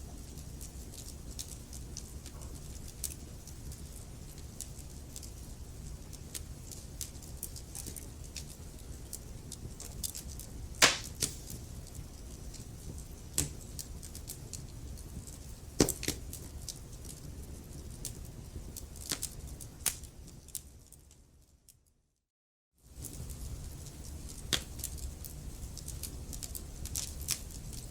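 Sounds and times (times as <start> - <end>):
wood fire crackling: 0.0 - 21.8, 22.8 - 27.9.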